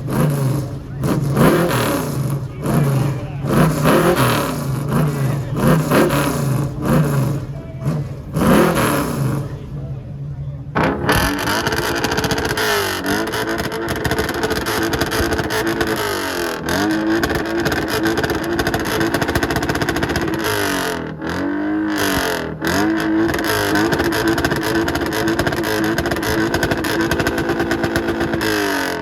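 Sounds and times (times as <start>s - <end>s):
car engine revving: 0.0s - 29.0s
loud steady exhaust note: 0.0s - 29.0s.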